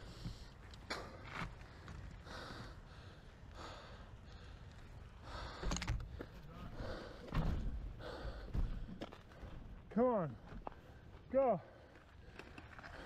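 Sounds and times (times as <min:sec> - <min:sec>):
cyclist breathing hard: 0:00.0 - 0:13.0.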